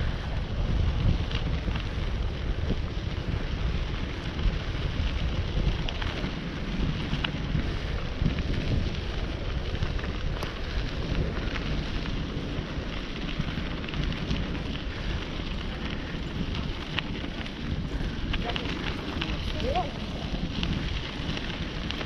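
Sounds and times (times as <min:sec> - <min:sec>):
steady crackle: 0:00.0 - 0:22.0
wind rumbling over microphone: 0:00.0 - 0:22.0.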